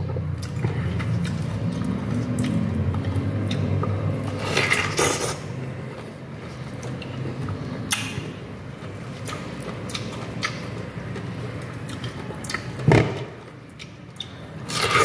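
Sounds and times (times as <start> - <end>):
wet chewing and slurping: 0.1 - 8.0, 8.8 - 15.0.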